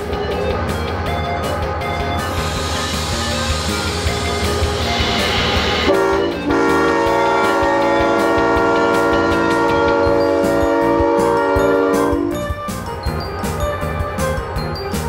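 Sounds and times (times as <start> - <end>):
music: 0.0 - 15.0
locomotive air horn chord: 0.9 - 14.4.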